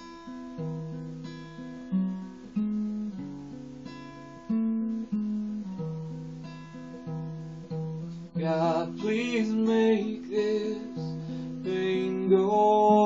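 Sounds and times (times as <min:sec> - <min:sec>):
acoustic guitar strummed: 0:00.0 - 0:13.0.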